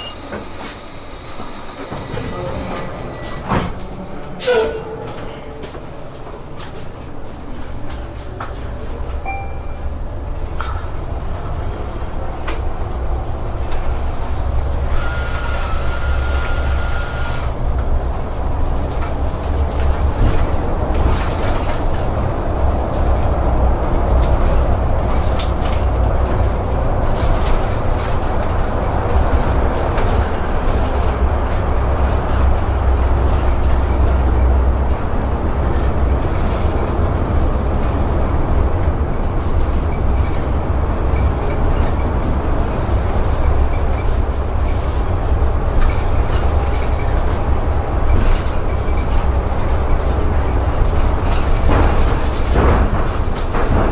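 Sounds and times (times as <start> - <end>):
bus drivetrain and road rumble: 0.0 - 53.9.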